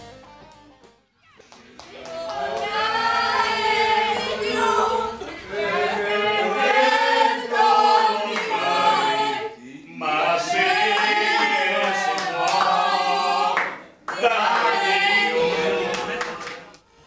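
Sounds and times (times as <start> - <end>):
group singing unaccompanied: 1.9 - 16.8.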